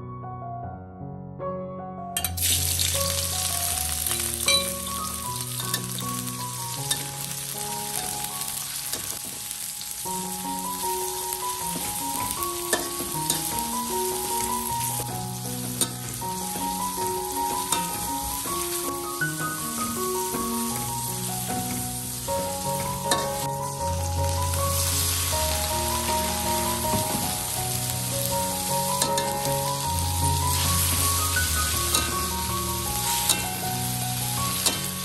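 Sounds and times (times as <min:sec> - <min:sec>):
food sizzling in a pan: 0:02.2 - 0:35.0.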